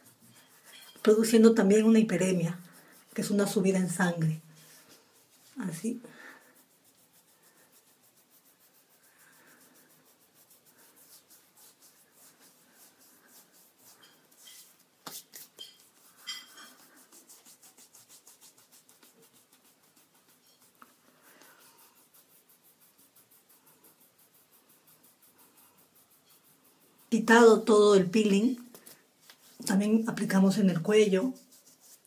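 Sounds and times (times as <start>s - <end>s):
fingertips rubbing skin: 0.0s - 32.0s.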